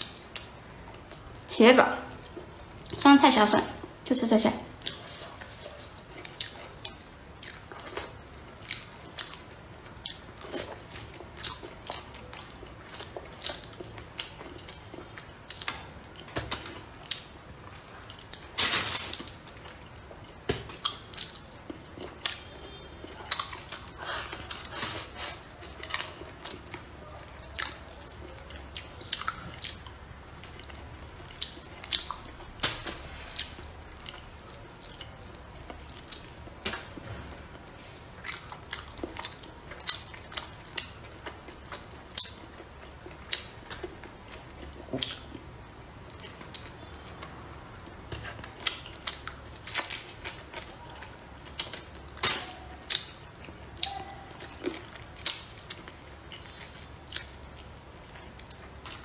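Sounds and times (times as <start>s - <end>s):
chewing and wet mouth sounds: 0.0s - 59.0s.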